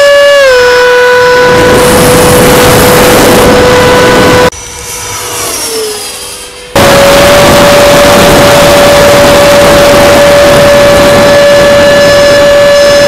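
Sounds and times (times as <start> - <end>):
model jet fan whine: 0.0 - 13.0
wind rush: 1.2 - 13.0.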